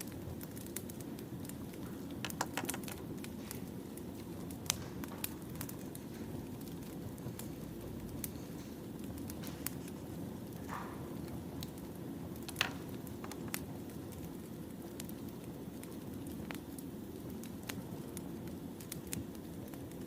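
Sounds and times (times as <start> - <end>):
fire pops and snaps: 0.0 - 20.0
wood fire crackling: 0.0 - 20.0.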